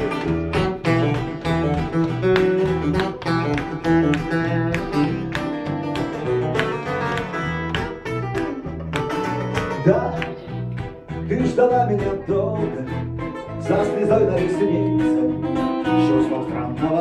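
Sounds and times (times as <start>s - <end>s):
acoustic guitar rhythm: 0.0s - 17.0s.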